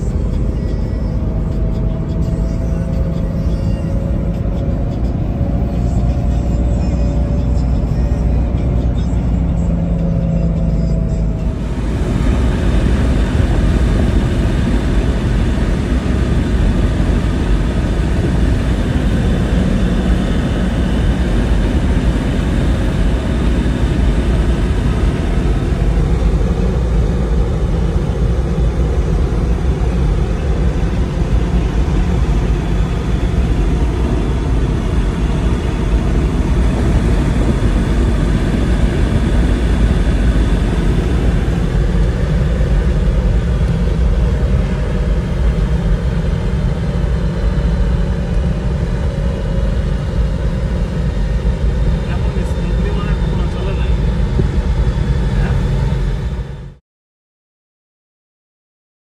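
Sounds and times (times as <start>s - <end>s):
car engine drone: 0.0s - 56.8s
road and wind noise: 0.0s - 56.8s.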